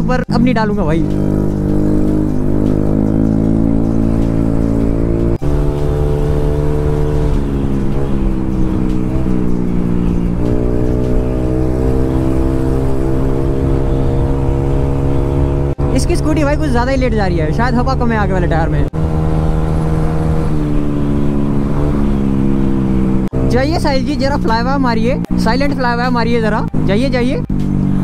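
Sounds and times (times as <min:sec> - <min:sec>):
scooter engine droning: 0:00.0 - 0:28.0.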